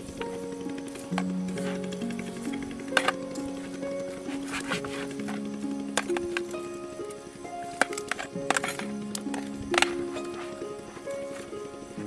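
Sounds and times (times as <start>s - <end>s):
slow melody of held notes: 0.0s - 12.0s.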